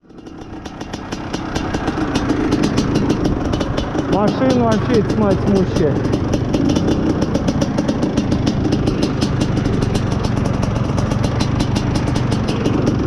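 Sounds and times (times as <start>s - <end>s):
motorcycle engine running: 0.0s - 13.0s
rapid regular ticking: 0.0s - 13.0s.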